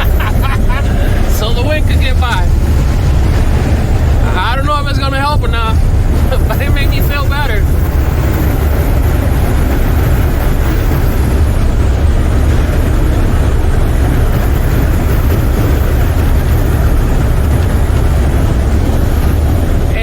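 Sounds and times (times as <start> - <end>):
road noise: 0.0 - 20.0
truck engine running: 0.0 - 20.0
wind rushing through windows: 0.0 - 20.0.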